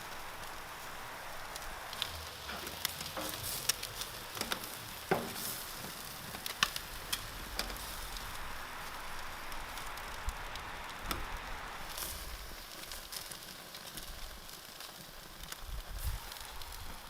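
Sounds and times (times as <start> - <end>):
chicken sizzling on a grill: 0.0 - 17.0
fat popping and crackling: 0.0 - 17.0.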